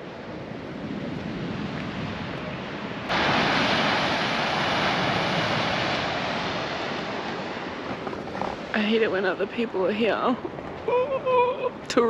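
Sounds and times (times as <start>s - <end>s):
ocean surf rushing: 0.0s - 12.0s
wind on microphone: 0.0s - 12.0s.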